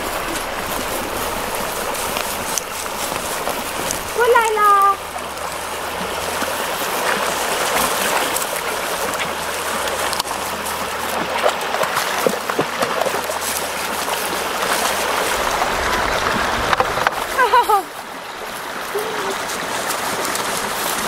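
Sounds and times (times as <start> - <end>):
stream trickling over stones: 0.0 - 21.0.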